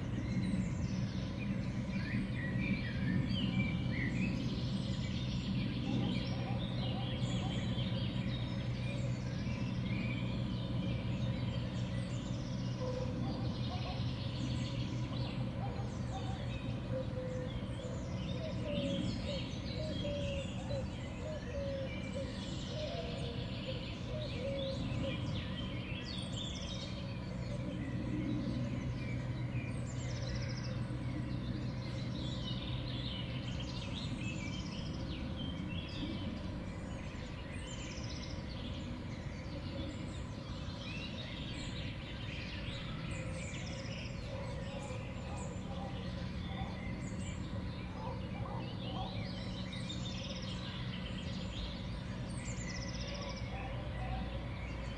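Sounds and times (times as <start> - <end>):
small songbirds chirping: 0.0 - 54.9.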